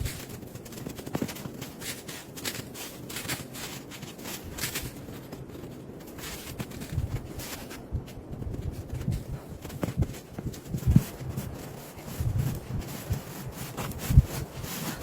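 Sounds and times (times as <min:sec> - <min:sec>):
footsteps crunching in snow: 0:00.0 - 0:15.0.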